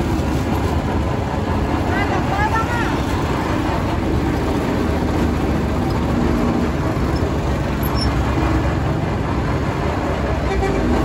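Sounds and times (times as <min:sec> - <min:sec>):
traffic rumble of passing vehicles: 0:00.0 - 0:11.0.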